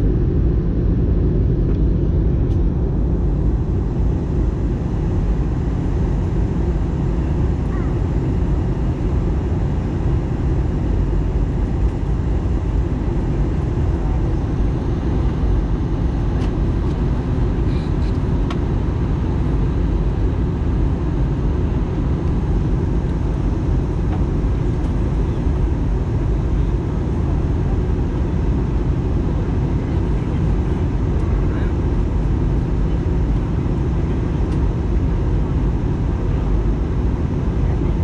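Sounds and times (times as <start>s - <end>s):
aircraft cabin rumble: 0.0s - 38.0s.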